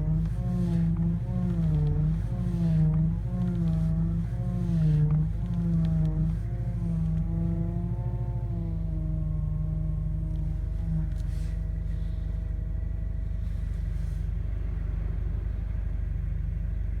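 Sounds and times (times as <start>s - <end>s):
car engine idling: 0.0s - 17.0s
power steering pump whine: 0.0s - 17.0s.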